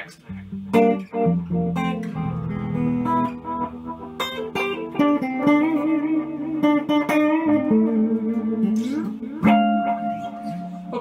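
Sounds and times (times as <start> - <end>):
electric guitar with echo: 0.3 - 11.0.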